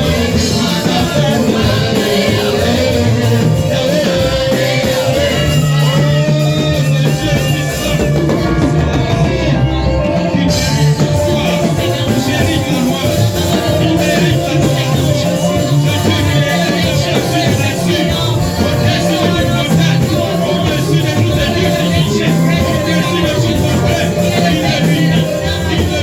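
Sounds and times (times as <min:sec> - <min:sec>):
band playing worship music: 0:00.0 - 0:26.0
people singing: 0:00.0 - 0:26.0.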